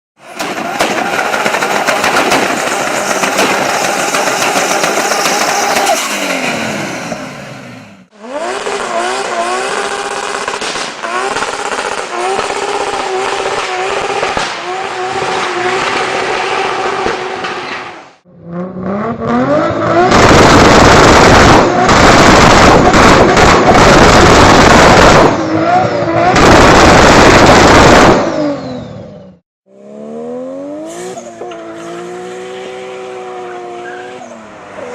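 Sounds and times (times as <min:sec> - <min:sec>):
car engine revving: 0:01.0 - 0:34.9.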